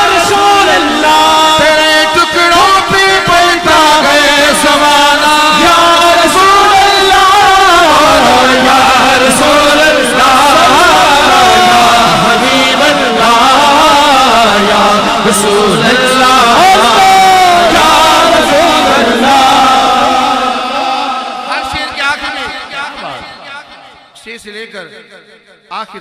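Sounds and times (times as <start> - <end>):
man singing: 0.0 - 26.0.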